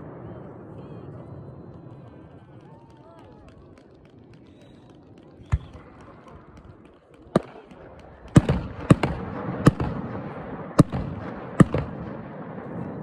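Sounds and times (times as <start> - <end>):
fireworks bangs with echo: 0.0 - 13.0.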